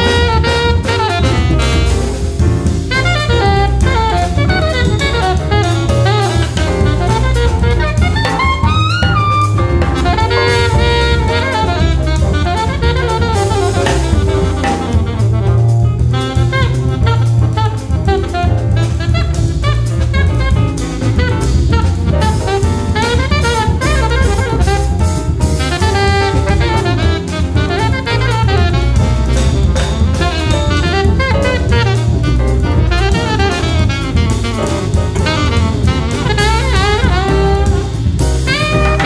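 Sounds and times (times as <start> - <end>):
bass: 0.0 - 39.0
drum kit with cymbals: 0.0 - 39.0
piano: 0.0 - 39.0
saxophone melody: 0.0 - 39.0.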